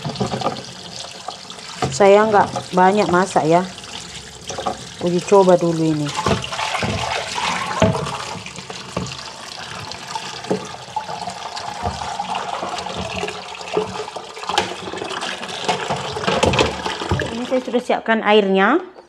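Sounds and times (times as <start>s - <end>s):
tap running into a sink: 0.0s - 17.6s
water splashing through a strainer: 0.0s - 17.8s.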